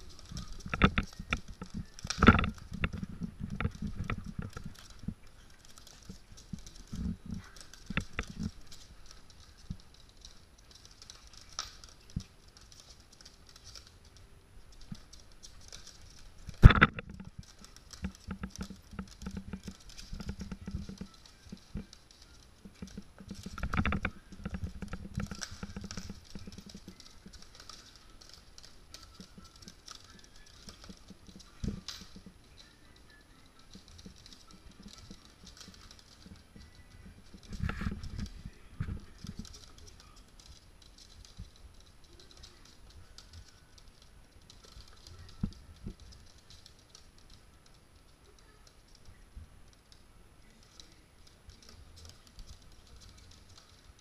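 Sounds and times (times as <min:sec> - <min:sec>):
thumps: 0:00.0 - 0:47.4
dog claws clicking on wooden floor: 0:00.0 - 0:54.0.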